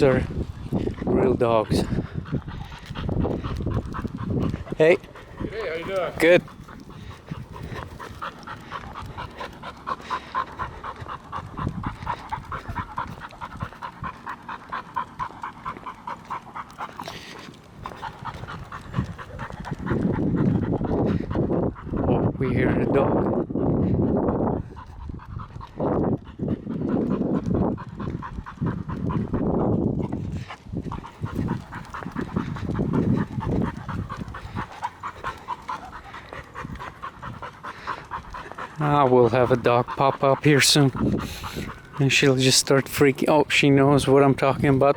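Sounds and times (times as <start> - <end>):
dog panting: 0.0 - 44.9.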